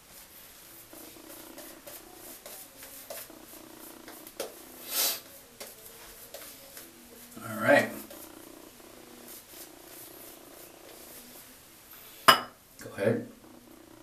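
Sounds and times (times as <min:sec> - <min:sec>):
shaving brush scrubbing lather: 0:00.0 - 0:11.5.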